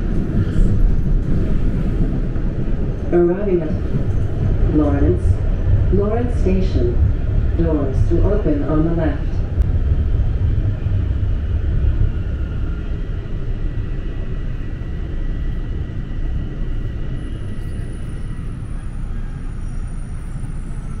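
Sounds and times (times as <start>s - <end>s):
subway train rumble: 0.0s - 21.0s.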